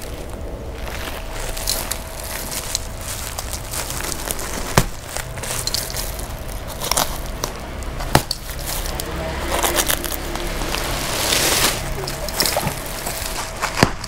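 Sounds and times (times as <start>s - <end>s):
plastic sack crackling: 0.0s - 14.0s.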